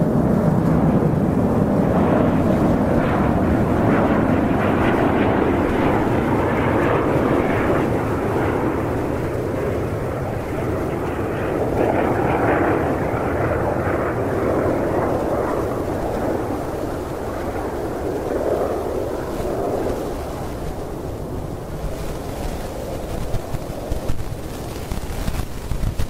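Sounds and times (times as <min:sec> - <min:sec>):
jet engines roaring: 0:00.0 - 0:25.7.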